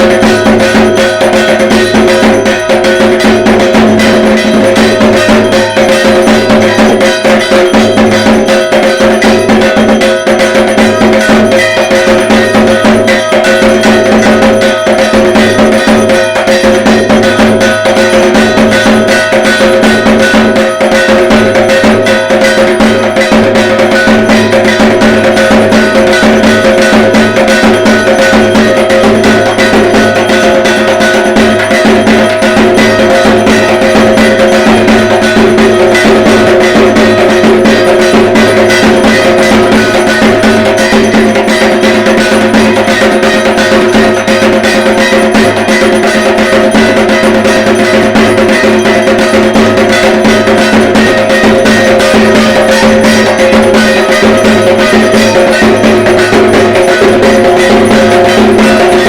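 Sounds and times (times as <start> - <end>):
barrel drum beaten fast: 0.0 - 59.0
metallic ringing: 0.0 - 59.0.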